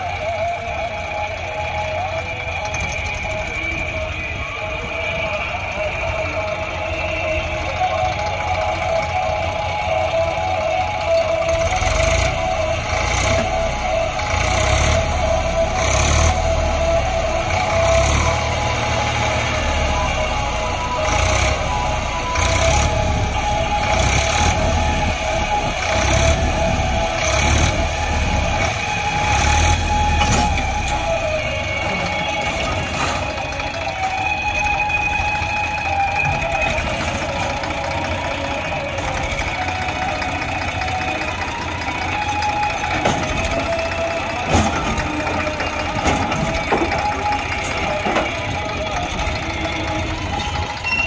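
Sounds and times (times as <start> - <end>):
background music: 0.0 - 51.0
tractor diesel engine under load: 0.0 - 51.0.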